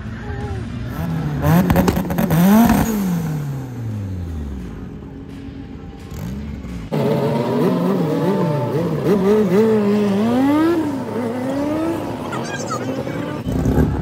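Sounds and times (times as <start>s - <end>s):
drag car engine revving: 0.7s - 14.0s.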